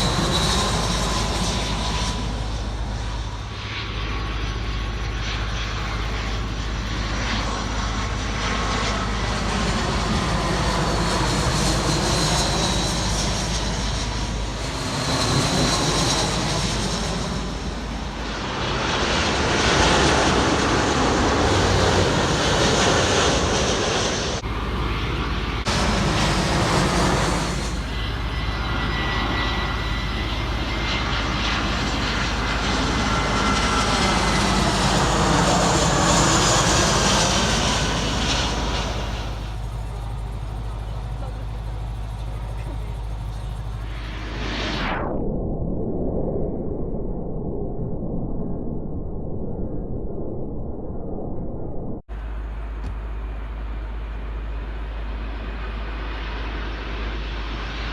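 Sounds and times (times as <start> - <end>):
jet engines high whine: 0.0 - 57.9.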